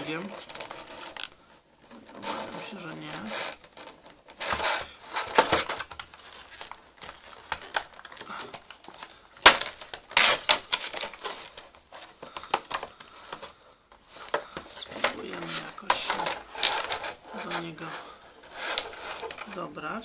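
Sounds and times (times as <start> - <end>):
plastic packaging crackling: 0.0 - 20.0.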